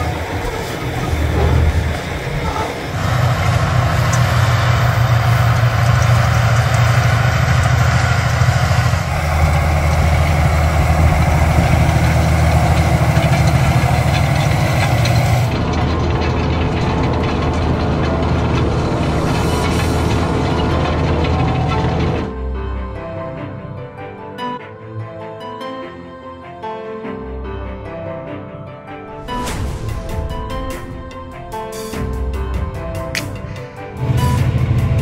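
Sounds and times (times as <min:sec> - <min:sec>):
tractor diesel engine running: 0:00.0 - 0:22.9, 0:29.9 - 0:35.0.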